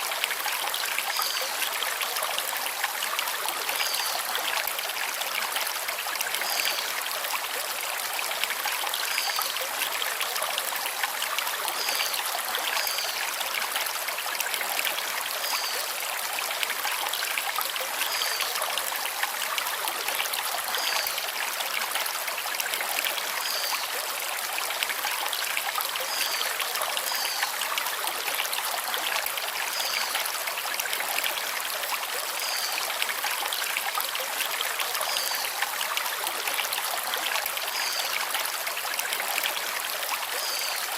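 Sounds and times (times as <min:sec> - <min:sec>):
stream water over stones: 0:00.0 - 0:40.9.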